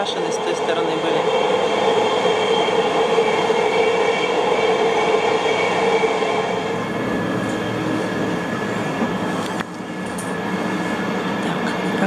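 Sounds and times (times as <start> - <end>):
train wheels rumbling: 0.0 - 12.0
train whine: 0.0 - 12.0.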